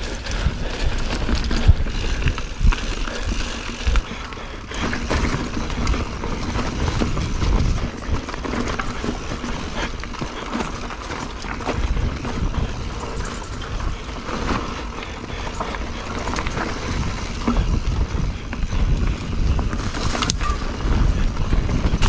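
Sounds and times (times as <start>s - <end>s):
bike knocking and rattling: 0.0s - 18.7s
bike tyres rumbling over dirt: 0.0s - 22.0s.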